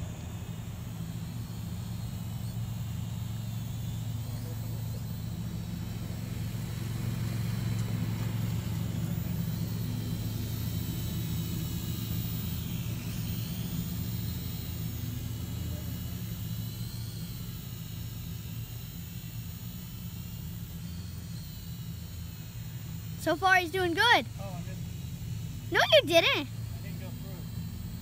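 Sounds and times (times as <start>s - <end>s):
drone motors whining: 0.0s - 28.0s
steady low hum: 0.0s - 28.0s.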